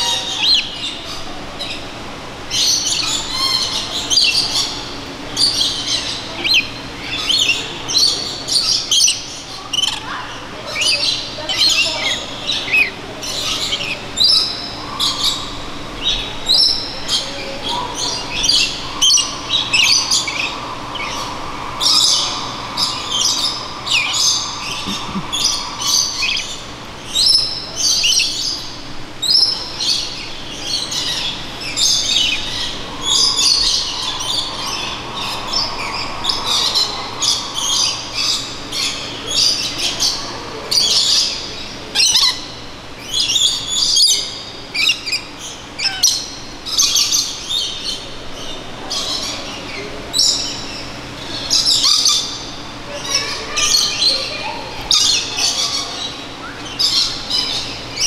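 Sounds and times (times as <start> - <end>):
lorikeets squawking and chirping: 0.0 - 58.0
steady hum: 0.0 - 58.0.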